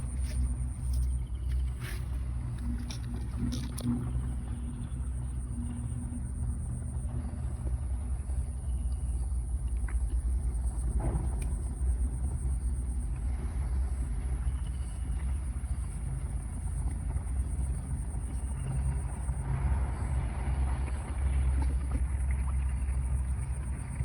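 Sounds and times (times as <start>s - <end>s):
engine rumbling: 0.0s - 24.0s
faint high whine: 0.0s - 24.0s.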